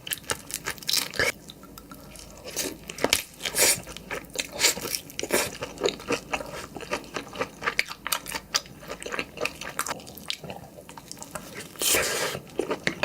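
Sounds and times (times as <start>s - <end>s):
chewing: 0.0s - 13.0s
person crunching shrimp: 0.0s - 13.0s.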